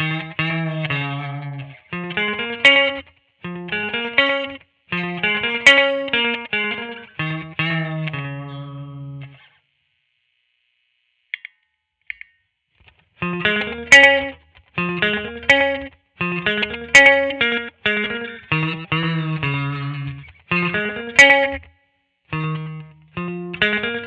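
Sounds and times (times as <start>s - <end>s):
electric guitar chords strummed: 0.0s - 9.4s, 13.2s - 21.7s, 22.3s - 24.0s.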